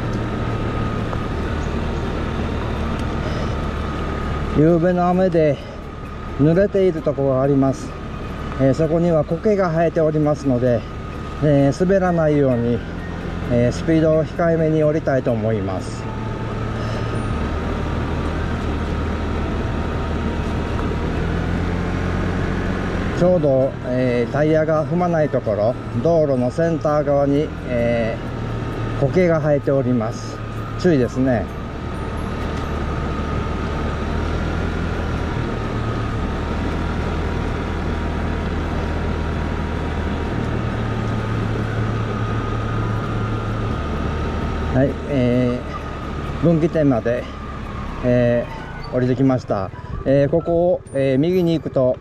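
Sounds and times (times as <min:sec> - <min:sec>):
moped engine at low revs: 0:00.0 - 0:48.4
wind and road noise: 0:00.0 - 0:52.0.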